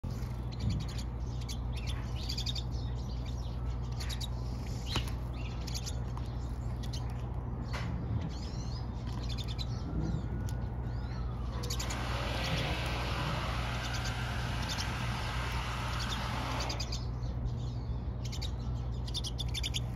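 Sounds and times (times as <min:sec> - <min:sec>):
birds chirping and twittering: 0:00.0 - 0:19.9
steady low hum: 0:00.0 - 0:19.9.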